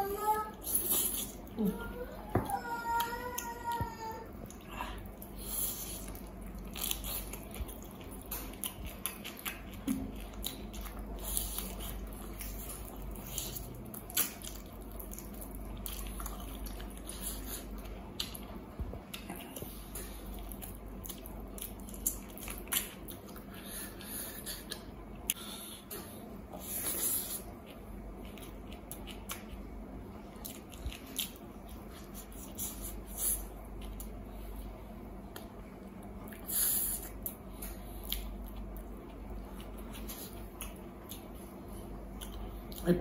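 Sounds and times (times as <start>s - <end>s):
steady low hum: 0.0s - 43.0s
wet chewing and lip smacks: 4.4s - 34.2s, 35.3s - 43.0s.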